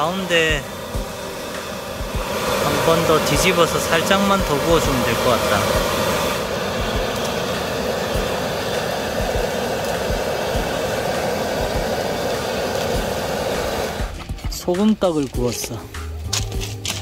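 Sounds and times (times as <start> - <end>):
shrimp sizzling on hot salt: 0.0 - 17.0.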